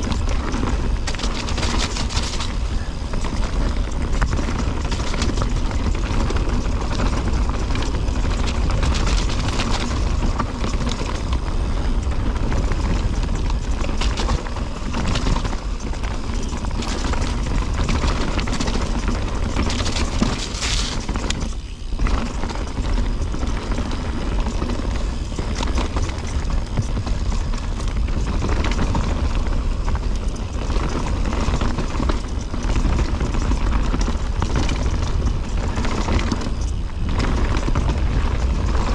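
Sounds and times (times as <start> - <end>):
bike rattling over bumps: 0.0 - 38.9
bike tyres crunching over stones: 0.0 - 38.9
wind rush on microphone: 0.0 - 38.9.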